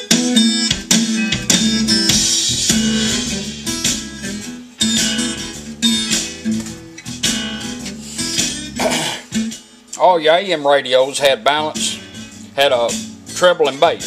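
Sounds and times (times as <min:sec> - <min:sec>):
guitar music on radio: 0:00.0 - 0:14.0.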